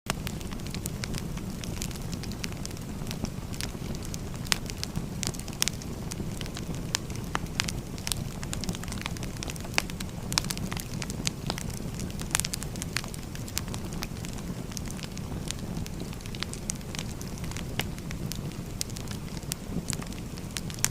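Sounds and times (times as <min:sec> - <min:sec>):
burning wood crackling and popping: 0:00.1 - 0:20.9
low rumble of flame: 0:00.1 - 0:20.9.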